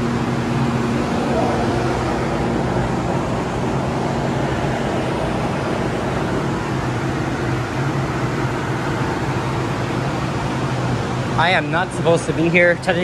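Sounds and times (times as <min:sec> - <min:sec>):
diesel train idling: 0:00.0 - 0:13.0.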